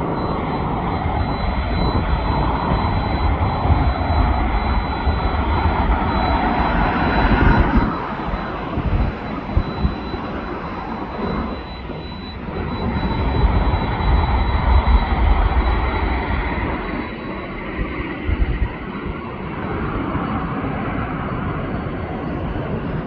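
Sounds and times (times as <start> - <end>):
airplane engine passing: 0.0 - 23.0
faint high whine: 0.0 - 23.0
wind buffeting microphone: 0.0 - 23.0.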